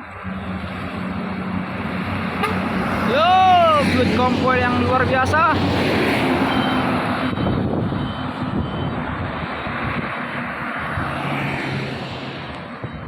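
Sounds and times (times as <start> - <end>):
diesel truck passing: 0.0 - 13.0.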